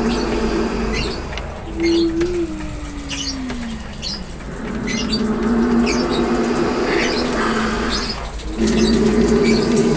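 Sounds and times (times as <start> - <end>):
snake growling: 0.0 - 9.9.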